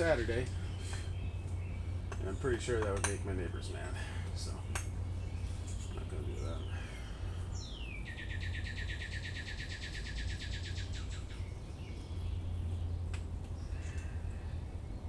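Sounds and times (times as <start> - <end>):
songbird trilling: 0.0 - 14.6
low hum: 0.0 - 15.0.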